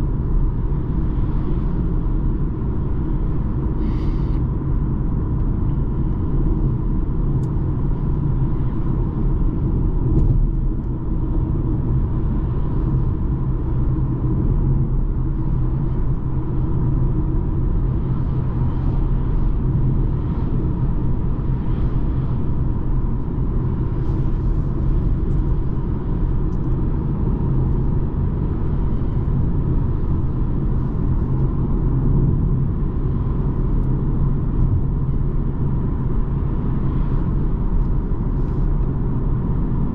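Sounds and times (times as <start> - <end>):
diesel car engine cruising: 0.0 - 39.9.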